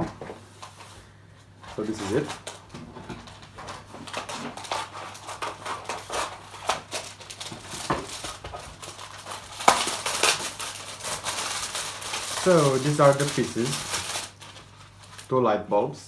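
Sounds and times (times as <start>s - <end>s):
packaging rustling: 0.0s - 15.3s.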